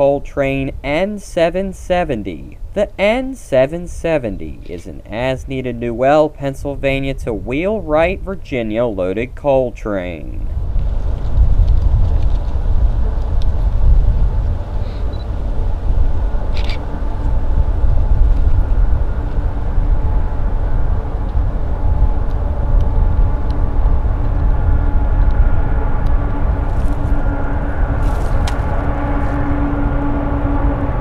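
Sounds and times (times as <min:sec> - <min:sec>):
diesel locomotives rumbling: 0:00.0 - 0:31.0.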